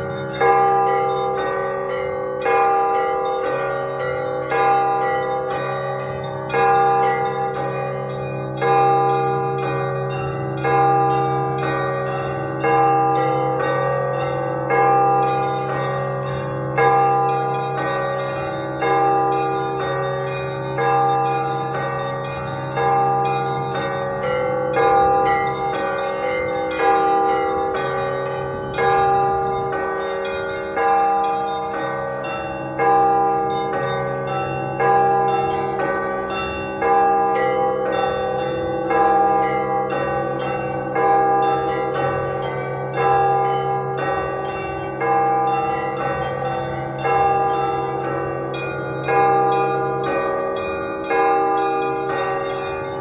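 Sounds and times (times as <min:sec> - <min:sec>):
heavy church bell strokes: 0:00.0 - 0:53.0
low bell tone: 0:00.0 - 0:53.0
small bells struck rapidly: 0:00.0 - 0:53.0.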